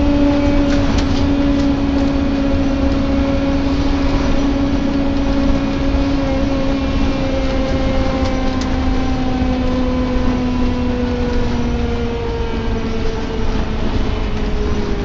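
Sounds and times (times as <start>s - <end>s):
bus engine and road rumble: 0.0s - 15.0s
groaning tone sinking in pitch: 0.0s - 15.0s.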